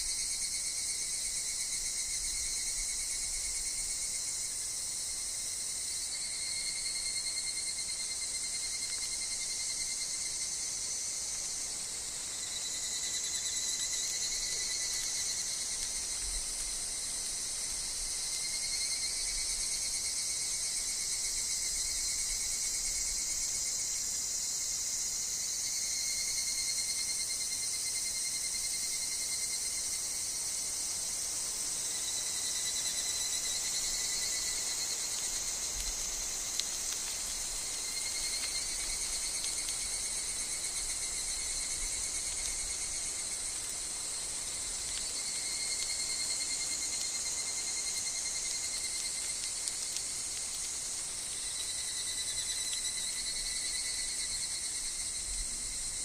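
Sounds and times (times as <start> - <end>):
insect chorus trilling: 0.0 - 56.0.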